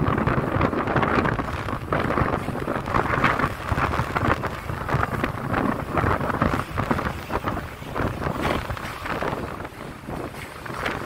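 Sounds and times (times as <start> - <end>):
tram rumbling along tracks: 0.0 - 11.0
wind buffeting microphone: 0.0 - 11.0.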